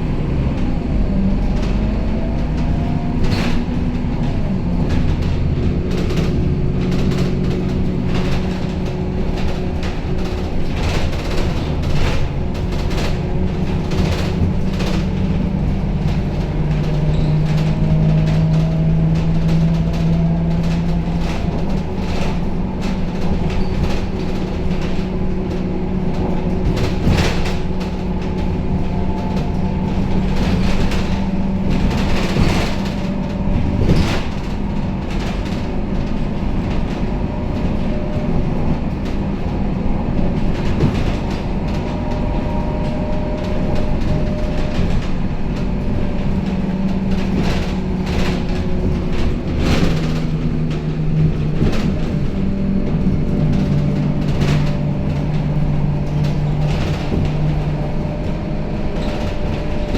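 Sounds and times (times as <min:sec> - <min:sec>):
bus diesel engine drone: 0:00.0 - 0:59.9.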